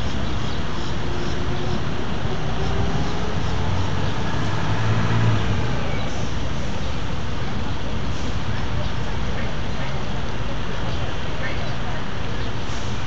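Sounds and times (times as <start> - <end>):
road traffic noise: 0.0 - 13.0
vehicle engine hum: 0.0 - 13.0.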